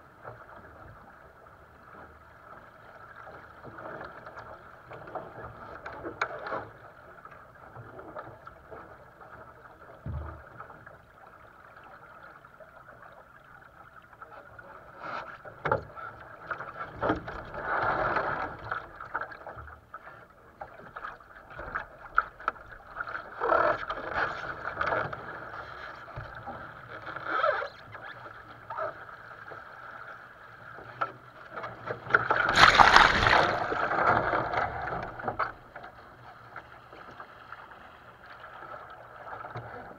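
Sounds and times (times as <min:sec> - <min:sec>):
water splashing along a hull: 0:00.0 - 0:39.9.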